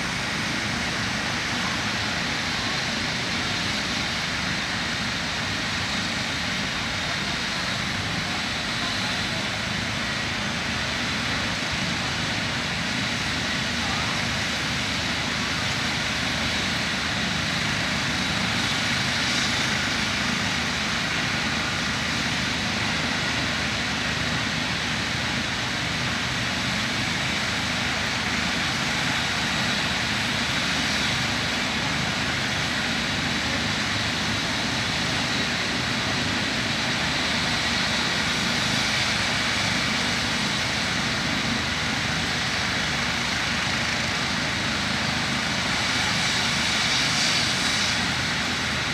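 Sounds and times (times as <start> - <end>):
helicopter rotor: 0.0 - 48.9
turbine high whine: 0.0 - 48.9.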